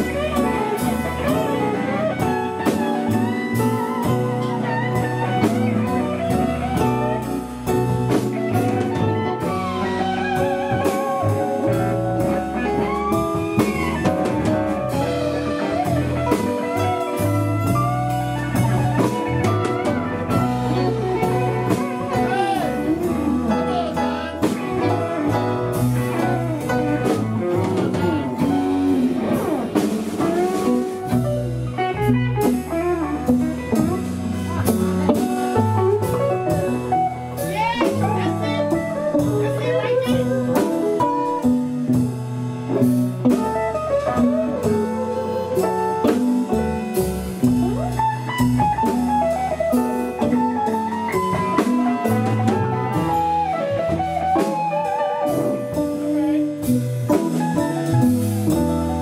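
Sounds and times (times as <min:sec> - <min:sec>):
bass and drum kit: 0:00.0 - 0:59.0
lead guitar with bent notes: 0:00.0 - 0:59.0.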